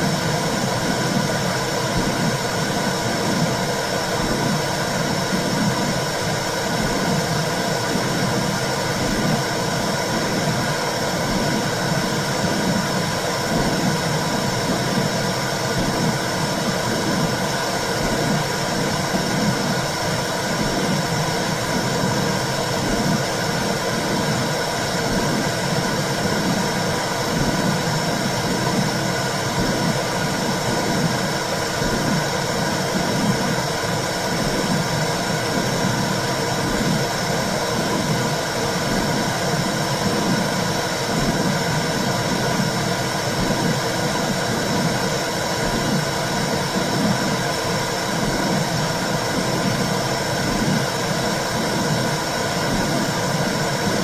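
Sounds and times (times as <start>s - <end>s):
low rhythmic heartbeat throb: 0.0s - 54.0s.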